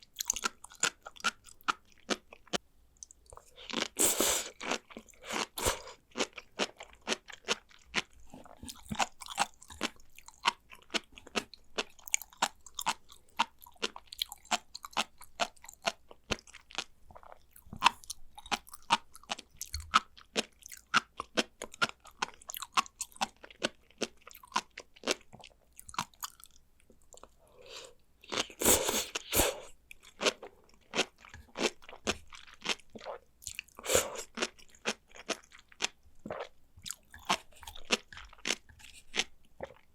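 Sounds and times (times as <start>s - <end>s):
chewing with crisp popping: 0.0s - 27.5s, 28.2s - 39.9s.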